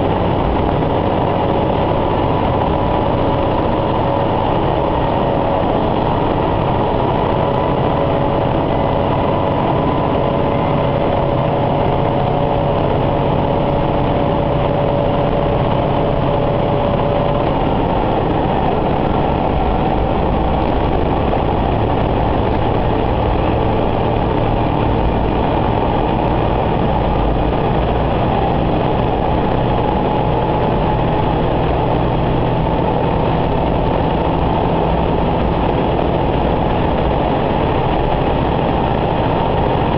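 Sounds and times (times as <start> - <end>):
railcar engine drone: 0.0 - 39.9
wheels rumbling on rail: 0.0 - 39.9.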